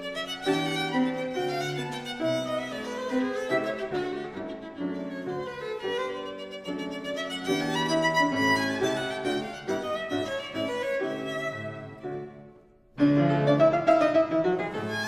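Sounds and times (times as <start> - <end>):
violin-led instrumental music: 0.0 - 15.0.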